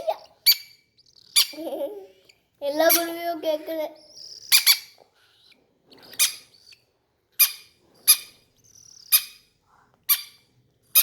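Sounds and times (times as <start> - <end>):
parrot squeaky calls: 0.0 - 9.5, 10.1 - 11.0.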